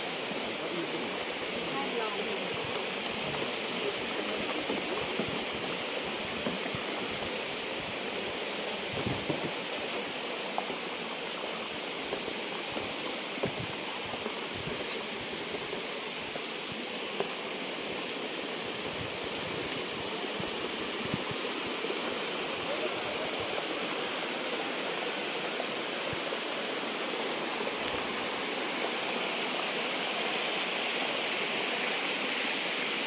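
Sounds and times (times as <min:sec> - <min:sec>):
small waterfall rushing: 0:00.0 - 0:33.0.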